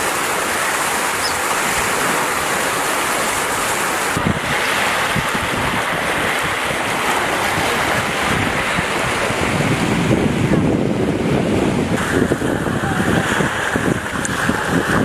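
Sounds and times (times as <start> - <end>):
river water: 0.0 - 15.0
wind buffeting the microphone: 0.0 - 15.0.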